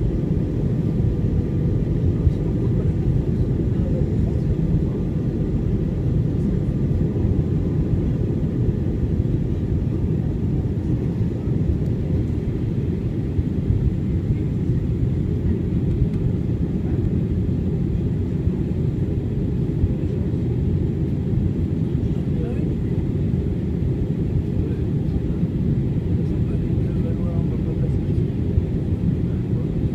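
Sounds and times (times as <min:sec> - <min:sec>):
aircraft cabin engine rumble: 0:00.0 - 0:29.9.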